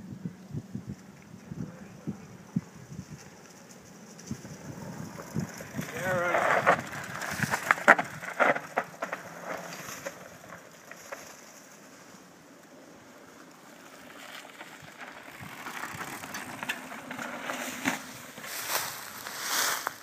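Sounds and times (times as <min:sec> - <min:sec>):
bicycle tyres crunching on leaves: 0:03.0 - 0:20.0.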